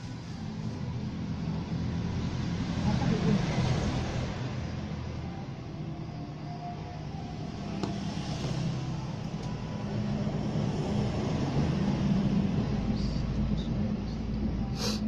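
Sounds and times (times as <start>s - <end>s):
engine low rumble: 0.0s - 15.0s.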